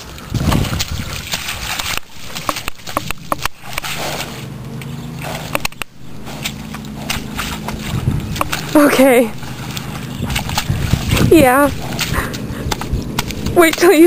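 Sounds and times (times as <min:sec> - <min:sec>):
horse hooves splashing in mud: 0:00.0 - 0:14.0.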